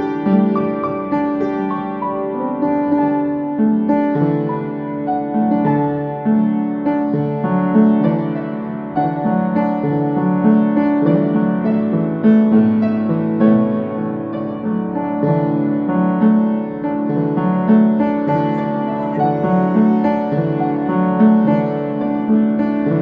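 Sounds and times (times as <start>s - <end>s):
piano playing hymn chords: 0.0s - 23.0s.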